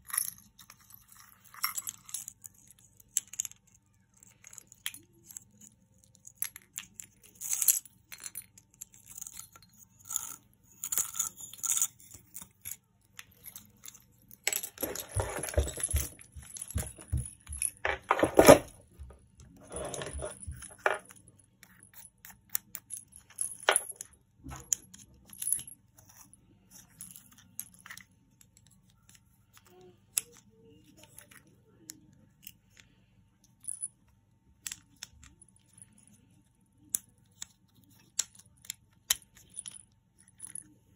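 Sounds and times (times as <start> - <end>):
wooden toys clicking and rattling: 0.0 - 33.0.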